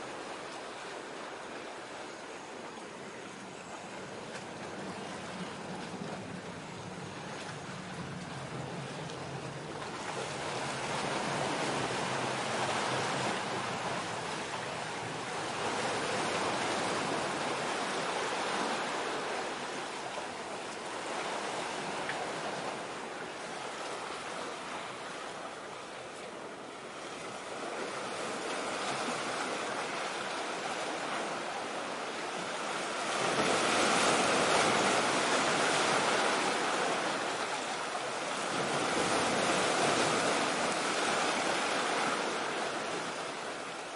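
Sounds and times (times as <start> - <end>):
sea waves washing: 0.0 - 43.9.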